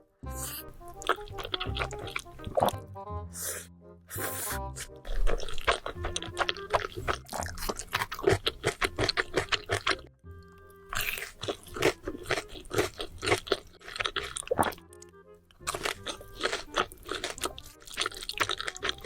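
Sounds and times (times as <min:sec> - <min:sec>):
soft background music: 0:00.0 - 0:19.0
crisp crunching and chewing: 0:00.4 - 0:02.8, 0:05.1 - 0:10.1, 0:10.9 - 0:19.0.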